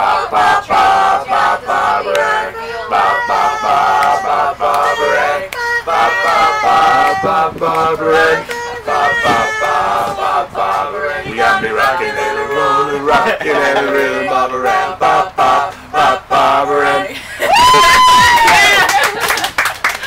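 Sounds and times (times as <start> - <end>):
boys singing together: 0.0 - 17.2.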